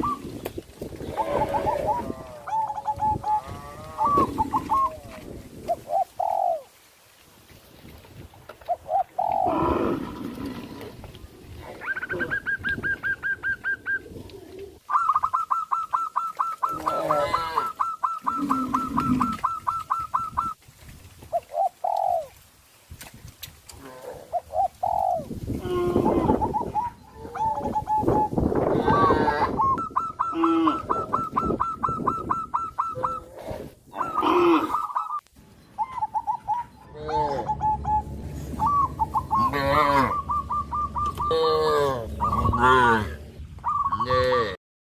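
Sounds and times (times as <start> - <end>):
birds calling: 0.0 - 6.7, 8.3 - 20.6, 21.3 - 22.3, 24.2 - 44.6.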